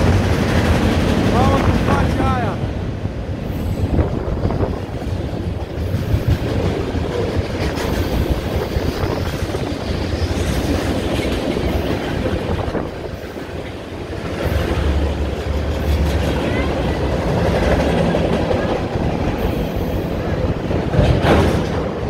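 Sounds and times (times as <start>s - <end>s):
train wheels clattering on rails: 0.0s - 22.0s.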